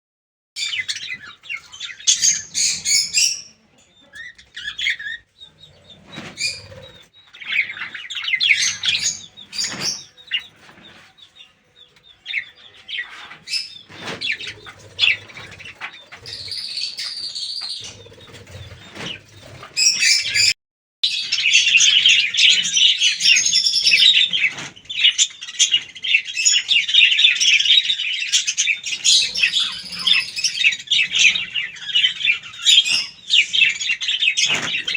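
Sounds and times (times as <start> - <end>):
budgerigars chattering and warbling: 0.6 - 20.5, 21.1 - 34.9.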